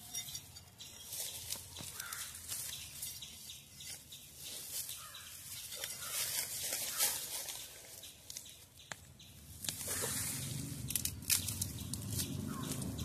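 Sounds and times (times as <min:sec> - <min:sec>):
metal bar digging gravelly soil: 0:00.0 - 0:08.5, 0:09.6 - 0:13.0.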